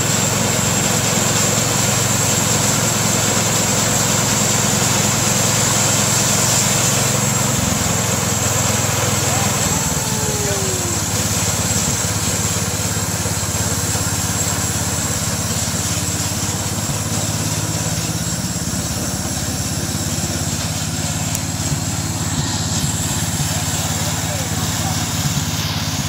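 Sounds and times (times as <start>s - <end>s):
small gasoline engine running: 0.0s - 26.0s.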